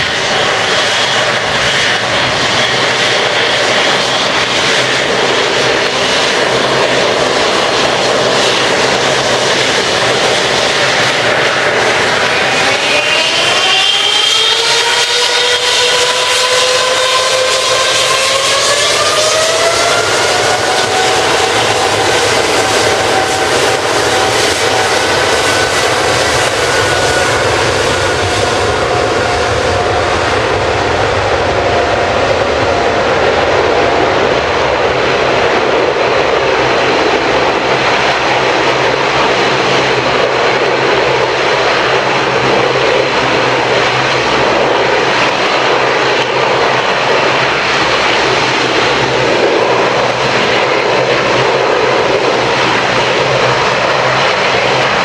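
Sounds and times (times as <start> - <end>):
jet engines roaring on takeoff: 0.0 - 55.0.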